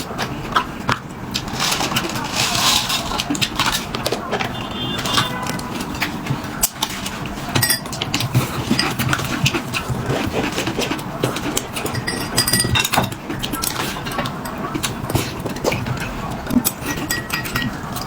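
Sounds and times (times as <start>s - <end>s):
utensils clinking on bowls: 0.0s - 18.0s.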